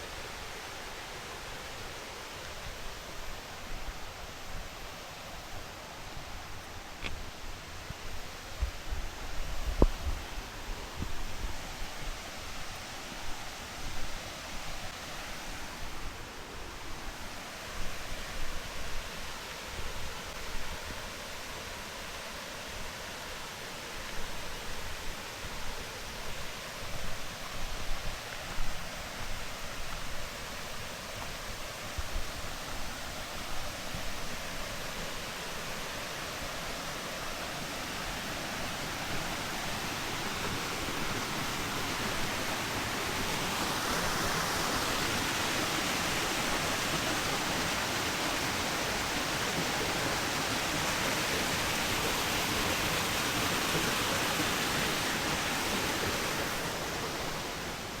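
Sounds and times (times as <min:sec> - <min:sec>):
waterfall rushing: 0:10.2 - 0:58.0.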